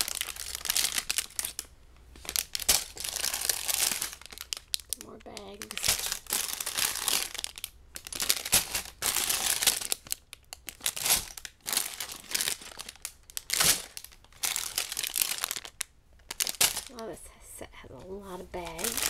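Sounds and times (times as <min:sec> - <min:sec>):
plastic bags crinkling: 0:00.0 - 0:17.0, 0:18.4 - 0:19.0.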